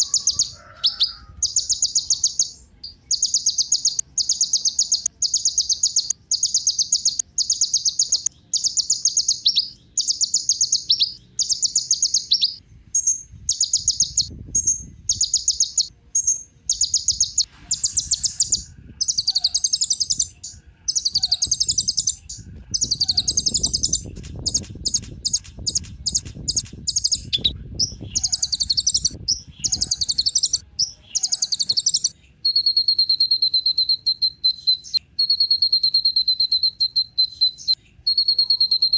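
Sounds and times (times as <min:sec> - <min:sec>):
sunbird singing trilling phrases: 0:00.0 - 0:38.9.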